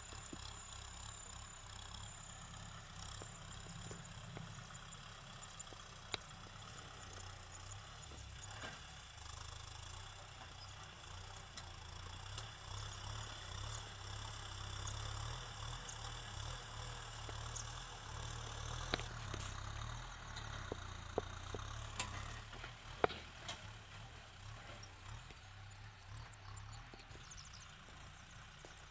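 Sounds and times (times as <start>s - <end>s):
diesel tractor engine idling: 0.0s - 28.9s.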